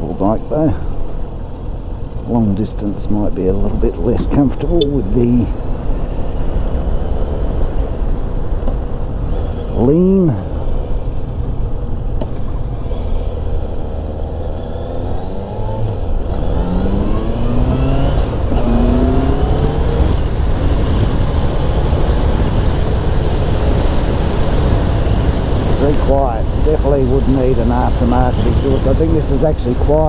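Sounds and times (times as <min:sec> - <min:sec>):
motorcycle engine accelerating: 0:02.0 - 0:30.0.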